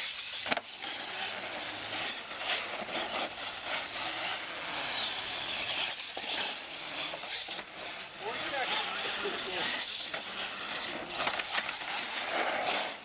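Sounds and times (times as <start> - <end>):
rc truck tyres scraping dirt: 0.0 - 13.0.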